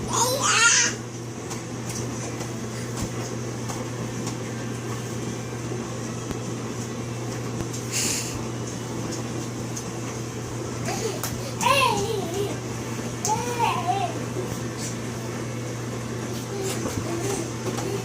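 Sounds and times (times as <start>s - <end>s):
dishwasher humming: 0.0s - 18.0s.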